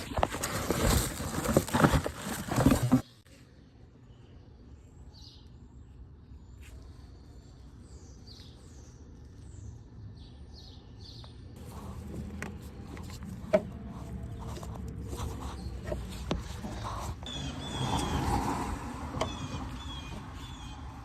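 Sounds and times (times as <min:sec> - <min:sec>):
small birds chirping: 0:04.0 - 0:21.0.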